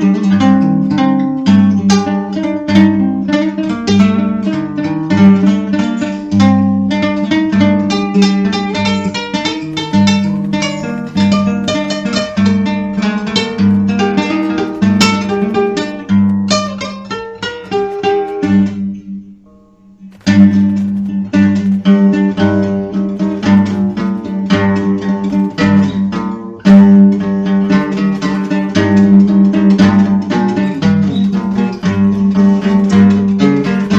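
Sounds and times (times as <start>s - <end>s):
acoustic guitar plucking: 0.0s - 33.9s.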